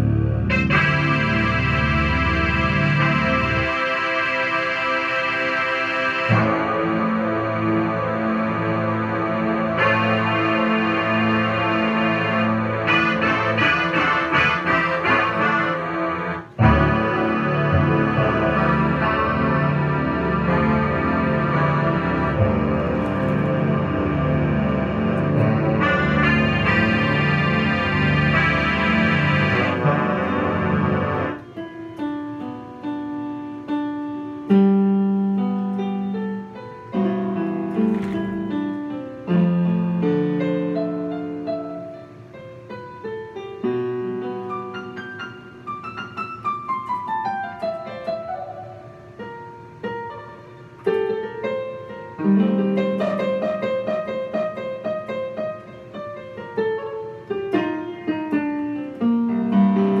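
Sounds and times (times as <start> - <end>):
electronic keyboard piano chords: 0.0 - 60.0.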